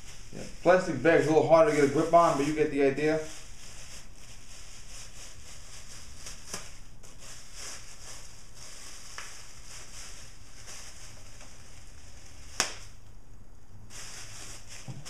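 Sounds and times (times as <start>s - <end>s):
plastic bag rustling: 0.0s - 13.0s, 13.8s - 15.0s.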